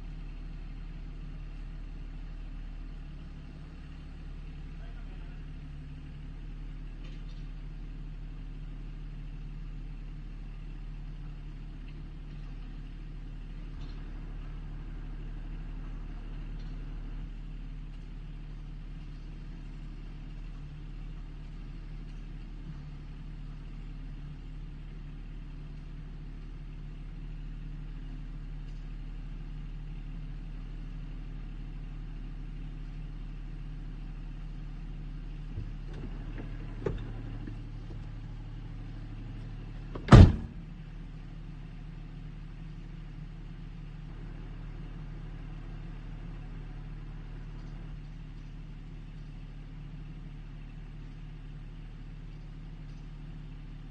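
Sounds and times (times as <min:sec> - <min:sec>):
backhoe engine running: 0:00.0 - 0:53.9.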